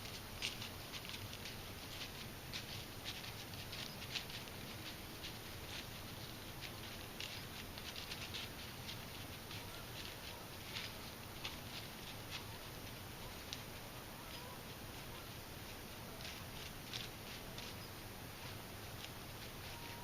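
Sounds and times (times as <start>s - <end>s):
deer crunching dry leaves: 0.0s - 20.0s
faint steady hiss: 0.0s - 20.0s.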